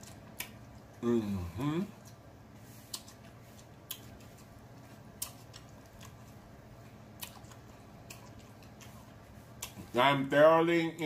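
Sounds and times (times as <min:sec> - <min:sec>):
man chewing: 0:00.0 - 0:09.9
low steady hum: 0:00.0 - 0:11.0.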